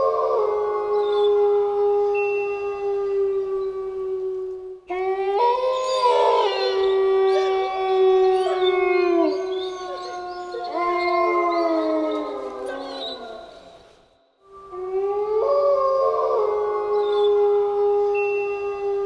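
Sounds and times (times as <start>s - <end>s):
wolves howling in chorus: 0.0s - 19.0s.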